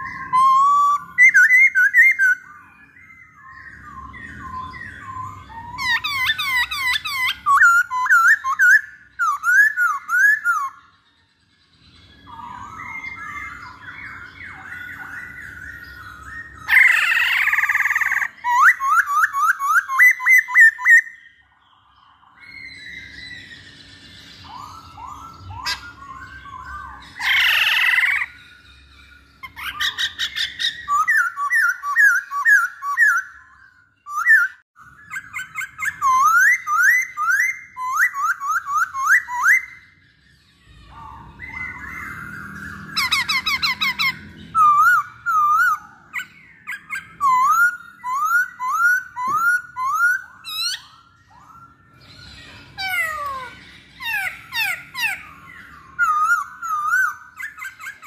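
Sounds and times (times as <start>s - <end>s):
bird harsh calls: 0.0s - 58.0s
bird whistled song: 0.0s - 58.0s.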